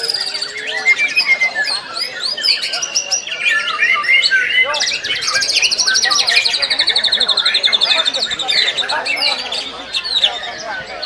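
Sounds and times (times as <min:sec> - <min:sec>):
birds whistling and chirping: 0:00.0 - 0:11.0
fast rattling bird trill: 0:00.0 - 0:11.0.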